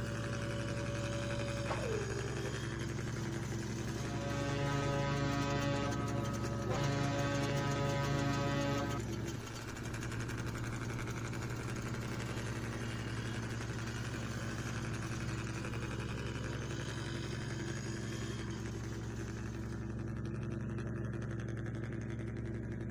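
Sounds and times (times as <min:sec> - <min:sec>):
engine idling: 0:00.0 - 0:22.9.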